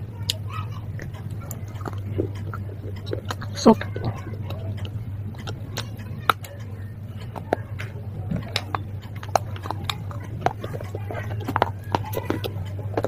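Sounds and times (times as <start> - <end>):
steady low hum: 0.0 - 13.0
clay crunching between teeth: 0.2 - 13.0.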